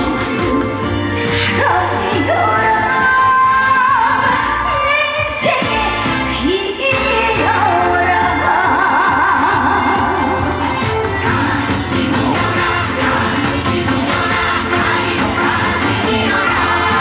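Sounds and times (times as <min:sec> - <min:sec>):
backing band playing: 0:00.0 - 0:17.0
woman singing with vibrato: 0:00.0 - 0:17.0.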